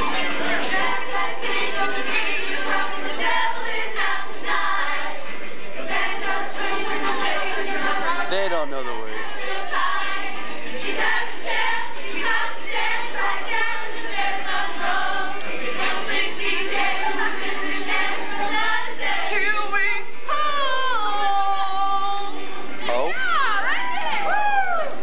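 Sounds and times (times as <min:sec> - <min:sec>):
children's choir singing: 0:00.0 - 0:23.0.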